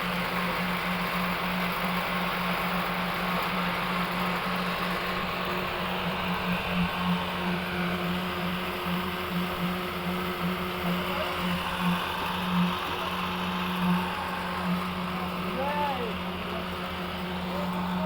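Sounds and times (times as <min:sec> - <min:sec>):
construction machinery humming: 0:00.0 - 0:18.0.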